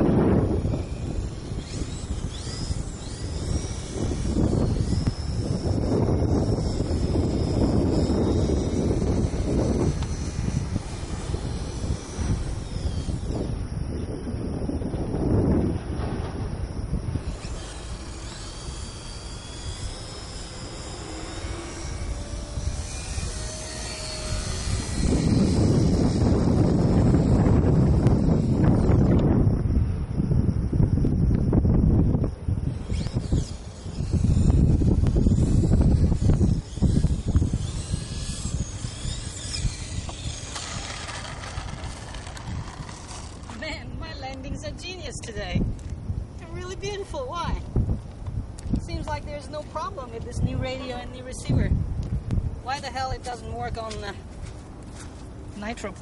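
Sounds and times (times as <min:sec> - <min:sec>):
model plane motor whine: 0:00.0 - 0:56.0
wind buffeting microphone: 0:00.0 - 0:56.0.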